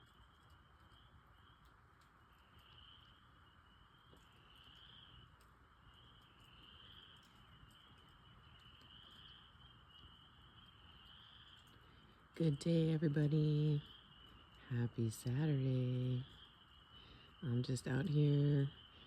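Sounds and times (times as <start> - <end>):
dripping water ticks: 0.0 - 19.0
frogs trilling: 0.0 - 19.0.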